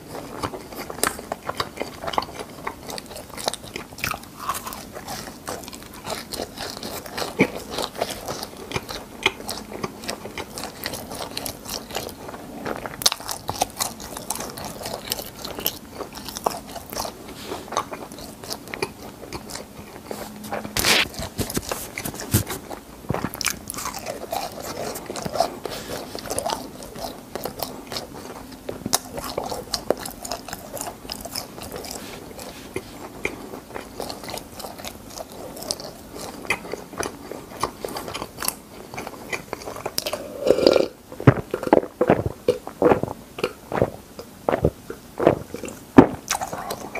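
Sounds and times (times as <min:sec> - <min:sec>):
crunchy food chewing: 0:00.0 - 0:46.9.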